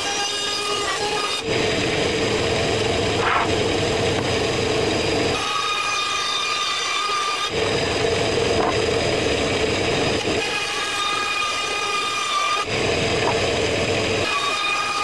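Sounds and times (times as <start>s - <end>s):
band saw cutting plywood: 0.0s - 15.0s.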